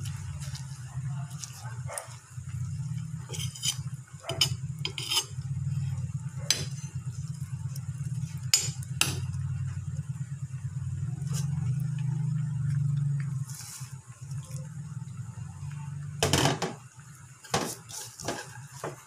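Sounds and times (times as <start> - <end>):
low hum: 0.0 - 17.5.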